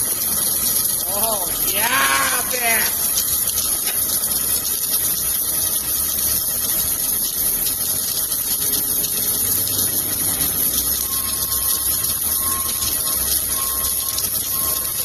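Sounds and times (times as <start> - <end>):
welding equipment hissing: 0.0 - 15.0.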